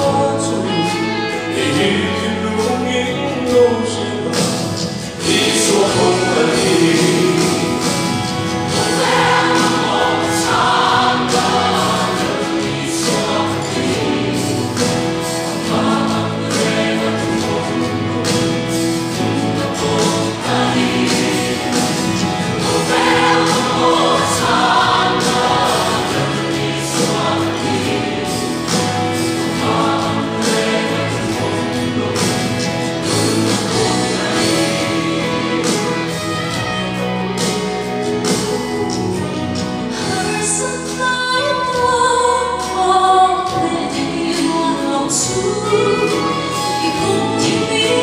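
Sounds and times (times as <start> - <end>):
choir singing a hymn: 5.0 - 41.8, 42.6 - 48.0.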